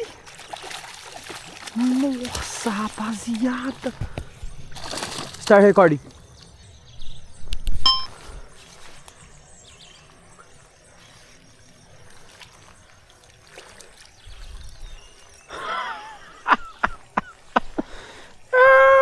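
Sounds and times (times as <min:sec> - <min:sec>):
faint water trickle: 0:00.0 - 0:18.5.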